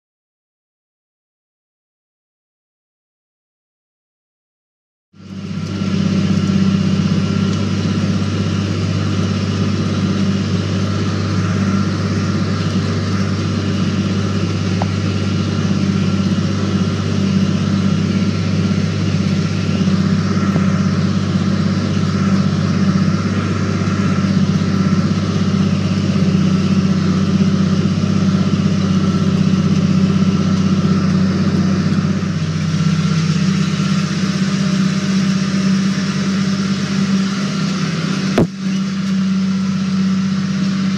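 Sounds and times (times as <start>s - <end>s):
tractor diesel engine drone: 5.2s - 40.9s.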